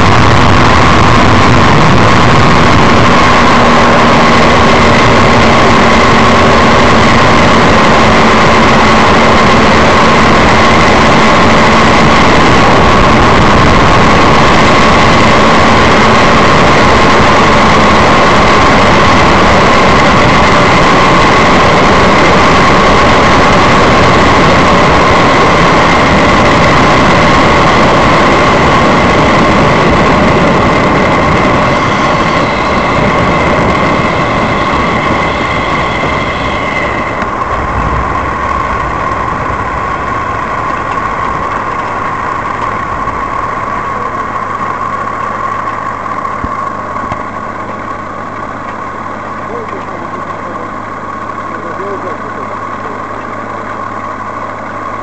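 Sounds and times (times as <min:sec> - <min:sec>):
wind rush on microphone: 0:00.0 - 0:48.8
engine and propeller in flight: 0:00.0 - 0:55.0.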